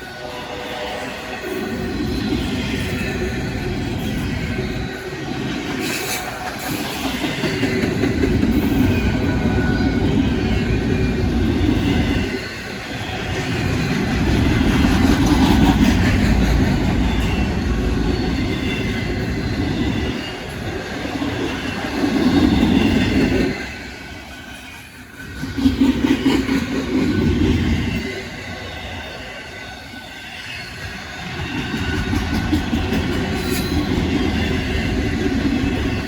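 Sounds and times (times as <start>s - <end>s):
freight train rumbling and rattling: 0.0s - 36.0s.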